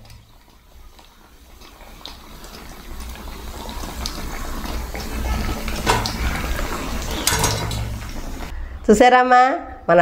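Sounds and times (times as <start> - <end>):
food sizzling in hot oil: 0.0 - 8.5.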